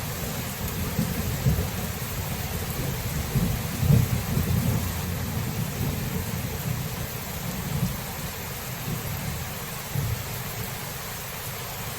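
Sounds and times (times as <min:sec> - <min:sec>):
steady rain hiss: 0:00.0 - 0:11.9
distant thunder rumbling: 0:00.2 - 0:10.4.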